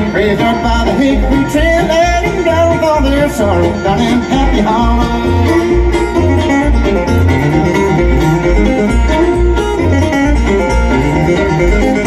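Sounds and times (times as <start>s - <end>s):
picked string instruments: 0.0s - 12.0s.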